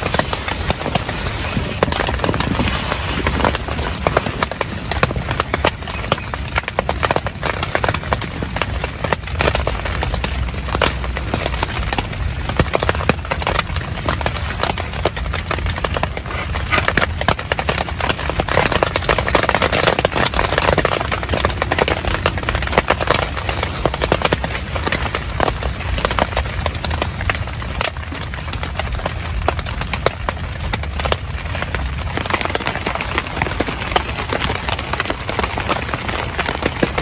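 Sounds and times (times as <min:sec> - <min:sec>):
heavy rain on a tent: 0:00.0 - 0:37.0.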